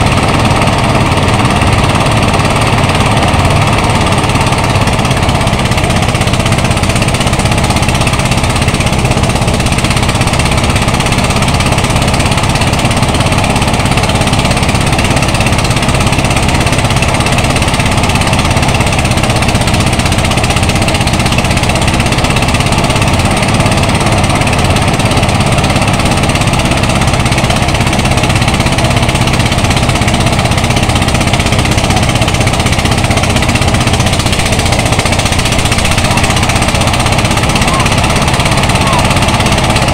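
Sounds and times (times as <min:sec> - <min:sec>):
rice thresher engine hum: 0:00.0 - 0:39.9
thresher drum rattling: 0:00.0 - 0:39.9.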